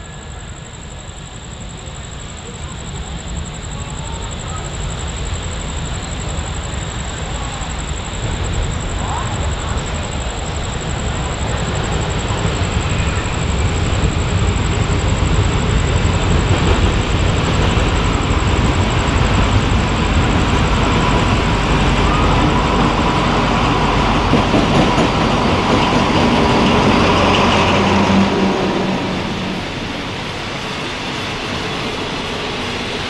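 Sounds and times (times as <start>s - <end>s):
locomotive engine drone: 0.0s - 33.0s
steady high whine: 0.0s - 33.0s
wheels rumbling on rails: 0.0s - 33.0s.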